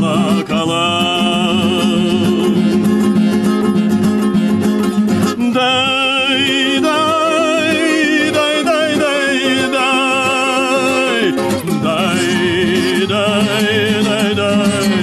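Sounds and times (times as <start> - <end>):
strummed guitar: 0.0 - 15.0.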